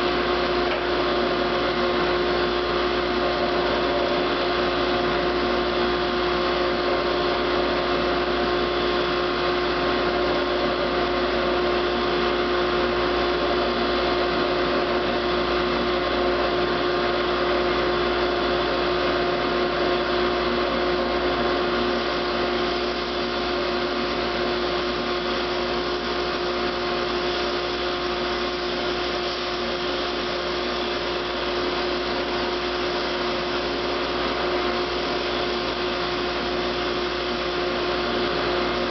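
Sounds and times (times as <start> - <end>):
sander motor hum with whine: 0.0 - 38.9.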